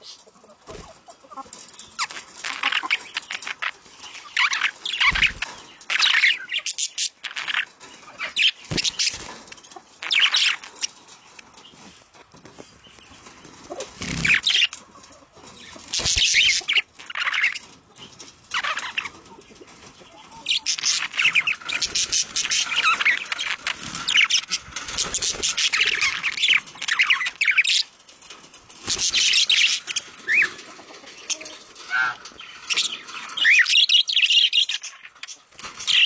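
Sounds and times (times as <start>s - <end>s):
budgerigars chattering and chirping: 0.0s - 11.9s, 12.7s - 36.0s.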